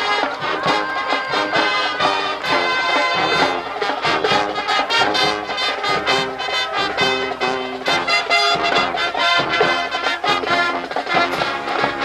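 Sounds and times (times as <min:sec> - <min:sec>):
brass playing tune: 0:00.0 - 0:12.0
marching drum beat: 0:00.0 - 0:12.0.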